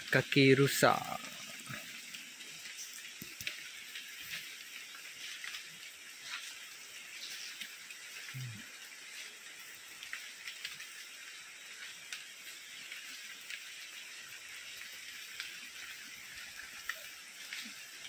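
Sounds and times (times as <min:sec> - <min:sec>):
running water in a stream: 0:00.0 - 0:18.0
faint ticks: 0:01.7 - 0:11.1, 0:11.8 - 0:13.9, 0:14.6 - 0:18.0.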